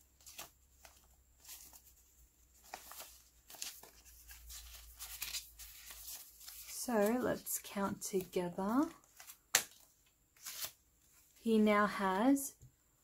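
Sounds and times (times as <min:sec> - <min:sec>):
banknotes rustling and crinkling: 0:00.0 - 0:11.6.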